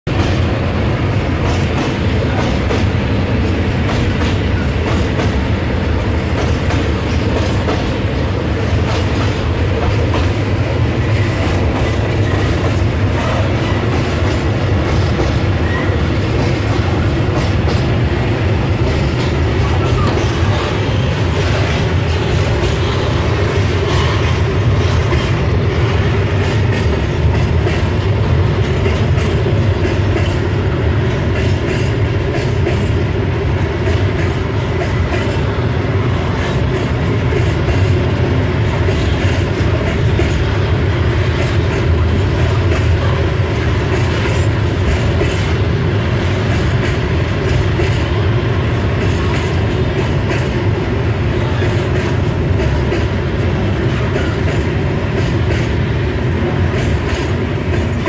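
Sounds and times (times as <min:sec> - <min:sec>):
freight train rumble: 0:00.0 - 0:58.0.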